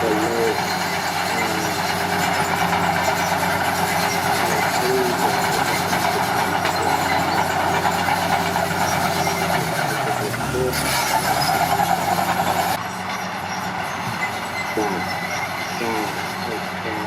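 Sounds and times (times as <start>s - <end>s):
bulldozer diesel engine running: 0.0s - 17.0s
dense steady clatter: 0.0s - 17.0s.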